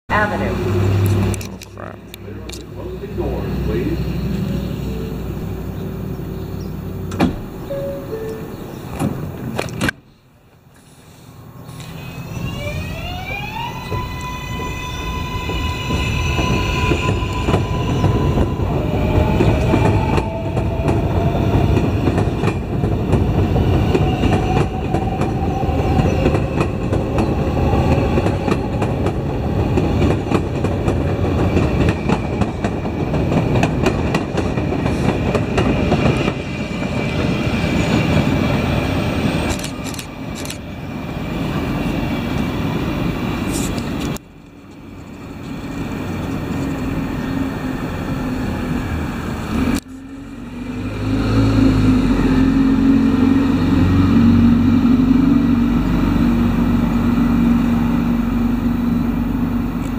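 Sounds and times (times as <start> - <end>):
subway train electric whine: 0.1 - 59.9
wheels rumbling on steel track: 0.1 - 59.9.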